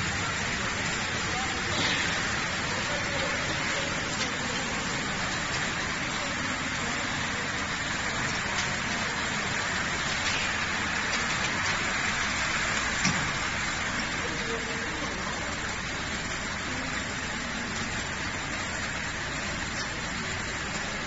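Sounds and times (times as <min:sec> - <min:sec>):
car wash machinery noise: 0:00.0 - 0:21.0
water spraying onto a car: 0:00.0 - 0:21.0.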